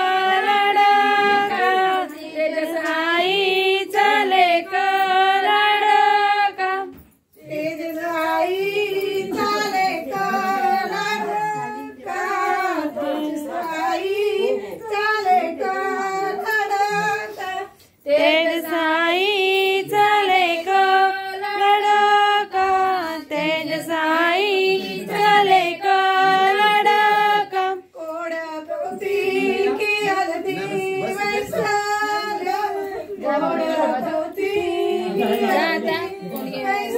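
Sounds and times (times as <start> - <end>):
woman singing: 0.0 - 36.9.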